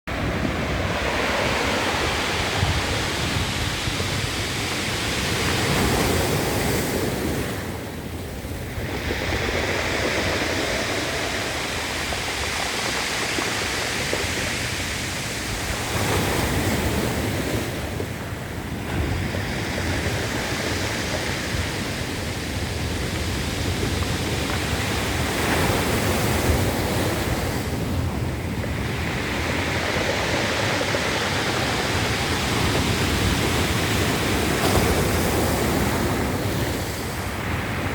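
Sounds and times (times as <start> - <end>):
ocean waves breaking on shore: 0.1 - 37.9.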